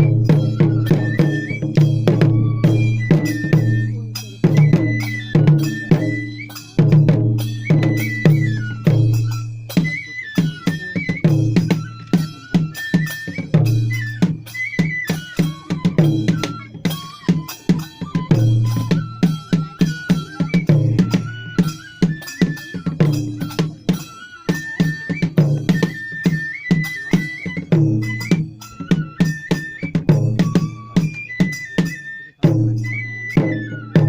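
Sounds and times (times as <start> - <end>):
bamboo flute melody: 0.0 - 34.0
rhythmic taiko drumming: 0.0 - 34.0
sharp metallic percussion strikes: 0.0 - 34.0.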